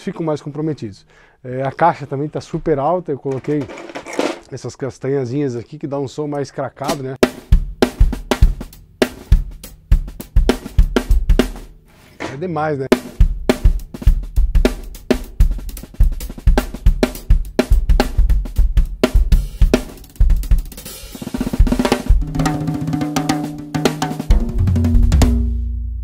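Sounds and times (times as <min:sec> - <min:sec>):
drum kit groove: 0:02.6 - 0:04.5, 0:06.8 - 0:26.0.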